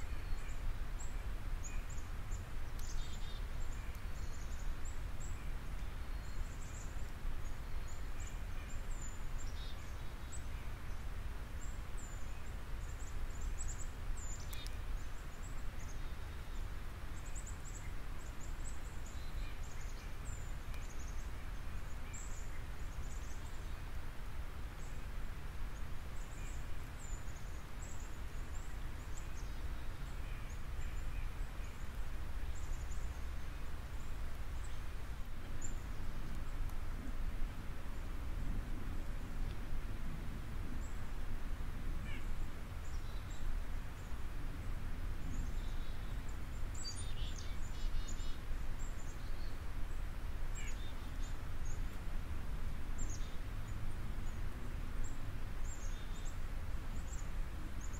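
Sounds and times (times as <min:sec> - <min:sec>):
small birds chirping: 0:00.0 - 0:38.8, 0:42.0 - 0:52.2, 0:52.9 - 0:57.9.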